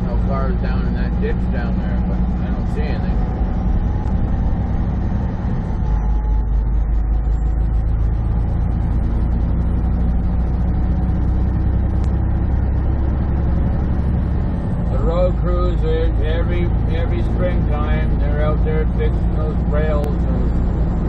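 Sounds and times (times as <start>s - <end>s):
road noise: 0.0s - 21.0s
truck diesel engine drone: 0.0s - 21.0s.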